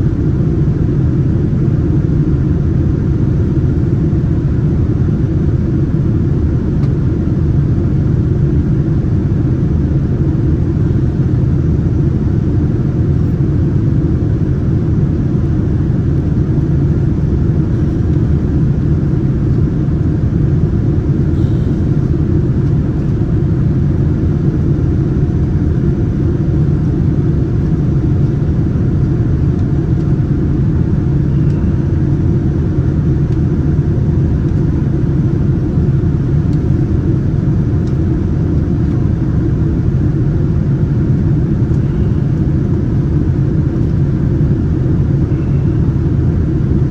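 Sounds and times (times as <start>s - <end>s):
aircraft engines and airflow rumble: 0.0s - 46.9s.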